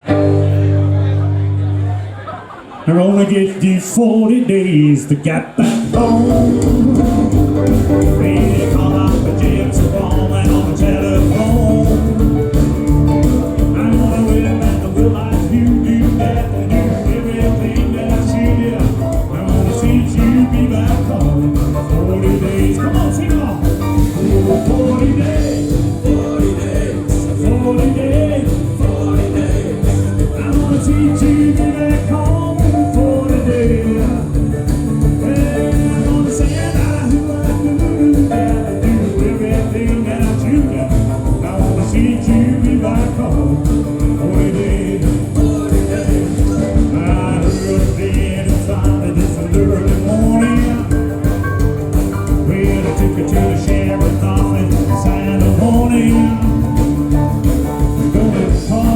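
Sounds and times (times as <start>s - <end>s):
live rock and roll band: 0.0s - 58.9s.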